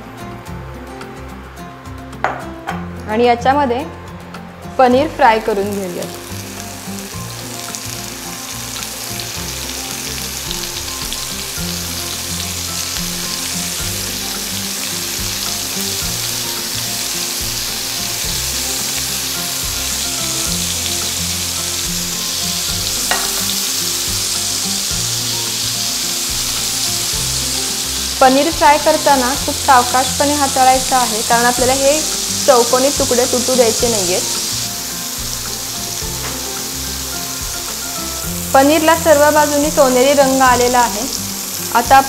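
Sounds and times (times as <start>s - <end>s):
cheese cubes sizzling in oil: 5.4s - 42.0s.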